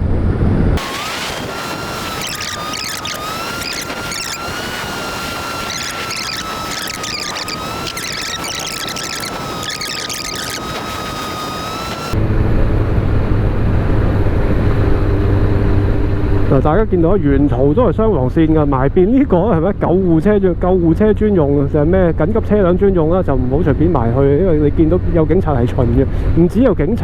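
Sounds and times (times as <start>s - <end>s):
motorcycle engine high whine: 0.0s - 27.0s.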